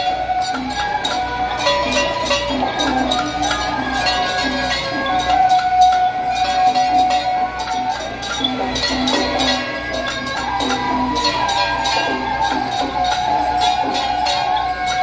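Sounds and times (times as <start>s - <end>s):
metallic cowbell-like percussion: 0.0s - 15.0s
sharp percussion strikes: 0.0s - 15.0s.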